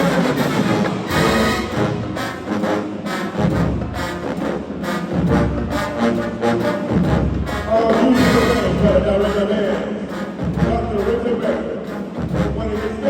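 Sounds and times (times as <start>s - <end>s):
marching band playing: 0.0s - 13.0s.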